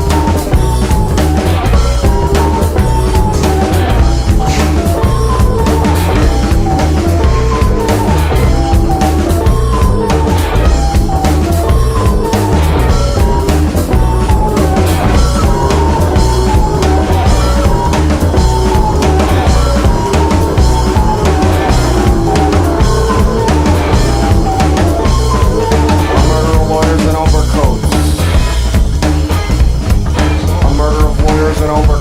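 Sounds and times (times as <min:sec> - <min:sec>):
short high melodic notes: 0:00.0 - 0:27.8
deep bass line: 0:00.0 - 0:32.0
drum kit beat: 0:00.0 - 0:32.0
guitar: 0:00.0 - 0:32.0
sustained mid-pitched tones: 0:00.0 - 0:32.0.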